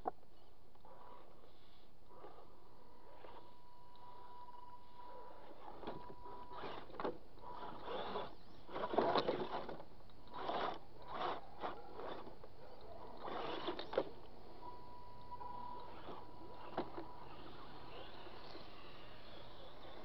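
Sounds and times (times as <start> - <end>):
toy car drivetrain whir: 0.8 - 14.3, 15.2 - 20.0.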